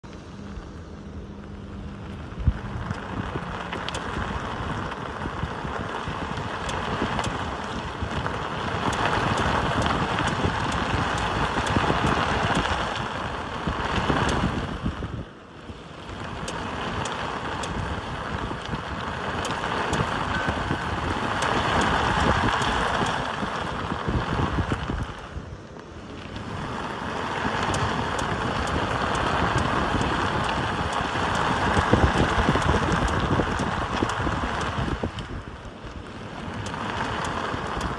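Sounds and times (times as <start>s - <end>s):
road and wind noise: 0.0s - 37.9s.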